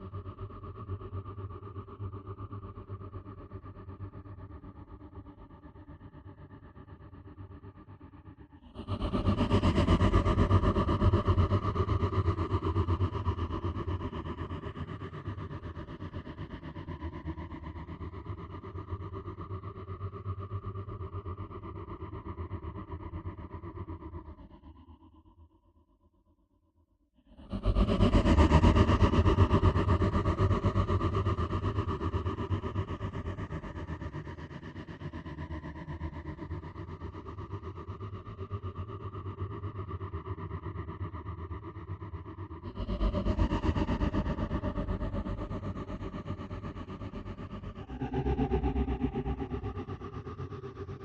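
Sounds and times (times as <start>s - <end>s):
low fluttering drone: 0.0s - 25.5s, 27.3s - 51.0s.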